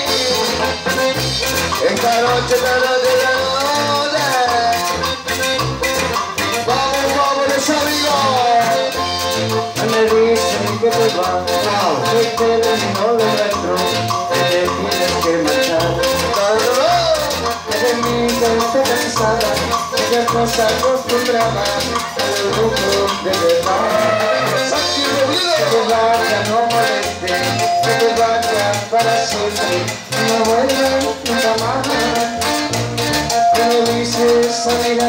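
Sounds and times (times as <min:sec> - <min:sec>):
metal guiro scraping: 0:00.0 - 0:28.8
band playing instrumental music: 0:00.0 - 0:35.0.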